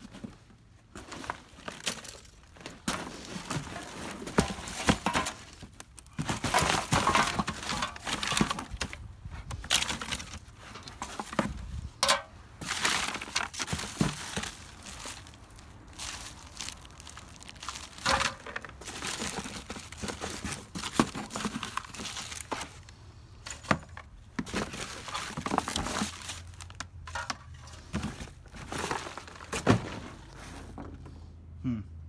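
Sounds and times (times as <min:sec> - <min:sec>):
plastic and paper crinkling: 0:00.0 - 0:30.7
objects knocking and clattering: 0:01.1 - 0:22.7, 0:23.5 - 0:31.2.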